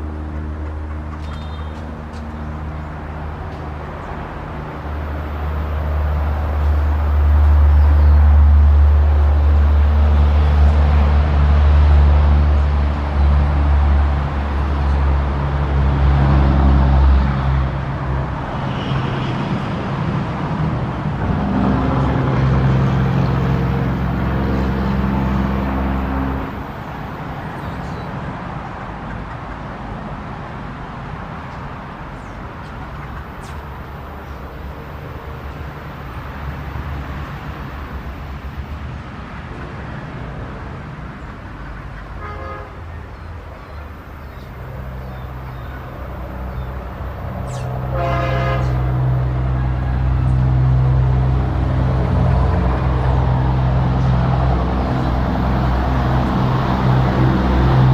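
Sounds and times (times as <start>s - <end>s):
distant traffic noise: 0.0s - 57.9s.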